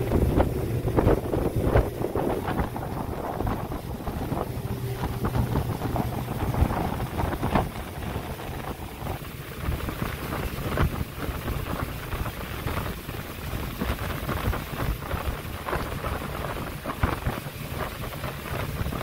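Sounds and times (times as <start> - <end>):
motor boat rumbling: 0.0 - 19.0
rushing water: 0.0 - 19.0
wind buffeting microphone: 0.0 - 19.0.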